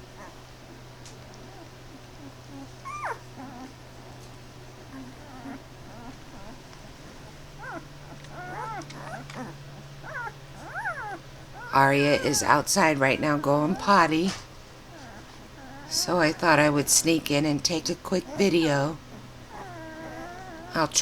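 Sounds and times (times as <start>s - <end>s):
puppies whimpering: 1.4s - 4.2s, 4.8s - 21.0s.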